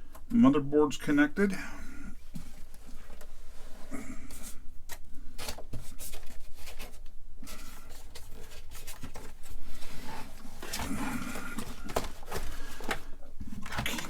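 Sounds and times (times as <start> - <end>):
hands rustling cables: 2.2 - 14.0.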